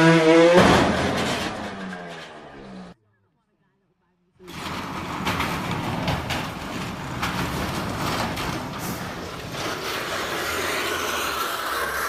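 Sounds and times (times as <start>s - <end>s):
vehicle noise: 0.0s - 3.0s, 4.4s - 12.0s.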